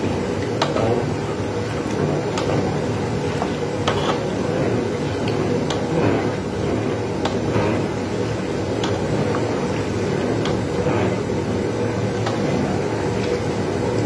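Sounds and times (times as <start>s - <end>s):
pot boiling over flame: 0.0s - 14.0s.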